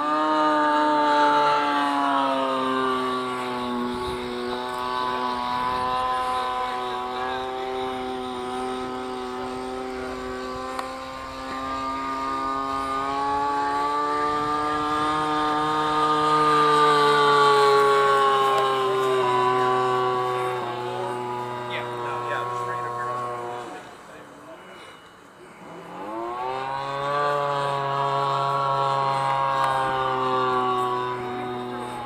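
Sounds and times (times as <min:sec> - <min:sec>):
model airplane motor droning: 0:00.0 - 0:32.0.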